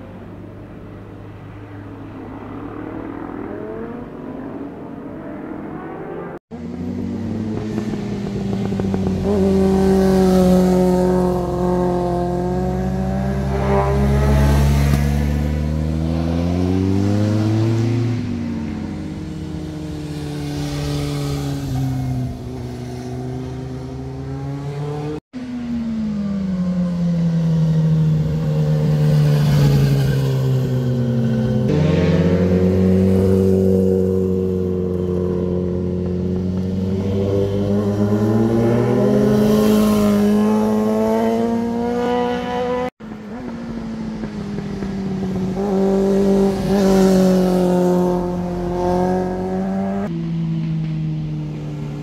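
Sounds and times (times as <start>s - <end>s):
motorcycles slowing and accelerating: 0.0s - 52.0s.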